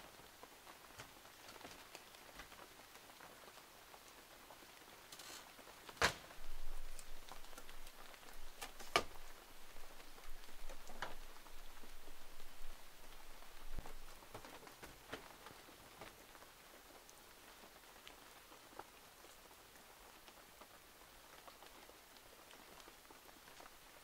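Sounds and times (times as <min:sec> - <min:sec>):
rain dripping in a forest: 0:00.0 - 0:24.0.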